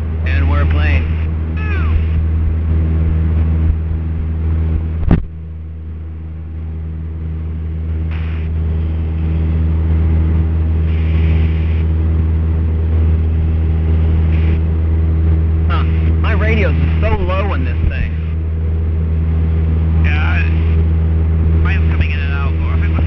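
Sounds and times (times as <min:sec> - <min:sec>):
aircraft engine and propeller drone: 0:00.0 - 0:23.0.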